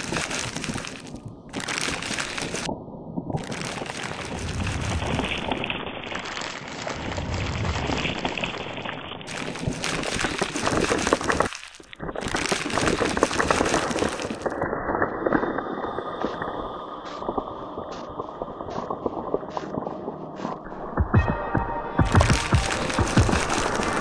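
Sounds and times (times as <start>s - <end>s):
crackling hissing noise: 0.0s - 21.1s, 22.0s - 24.0s.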